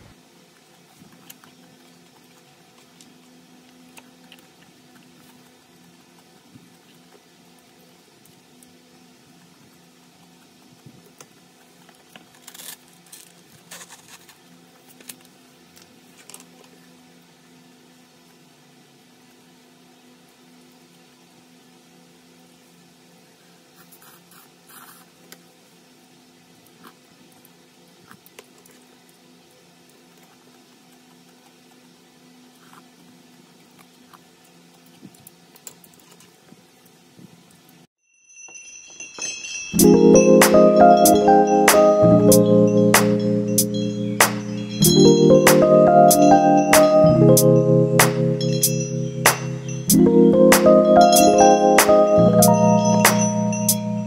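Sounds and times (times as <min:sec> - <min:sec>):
faint room hum: 0:00.0 - 0:54.0.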